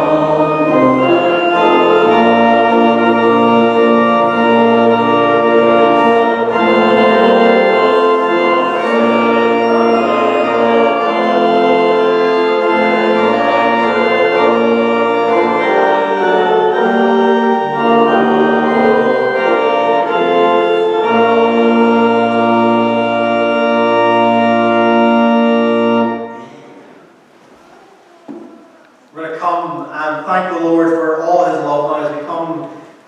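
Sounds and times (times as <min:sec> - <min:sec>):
organ playing a hymn: 0:00.0 - 0:26.9, 0:29.2 - 0:33.0.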